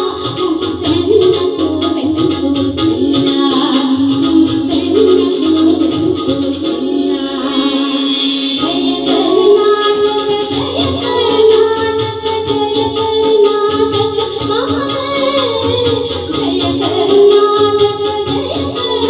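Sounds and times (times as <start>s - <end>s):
instrumental accompaniment with beat: 0.0s - 19.0s
woman singing into a microphone: 0.0s - 19.0s.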